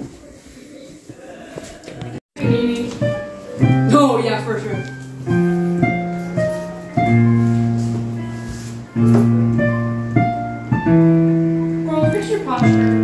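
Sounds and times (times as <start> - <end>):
digital piano chords and melody: 2.4 - 13.0.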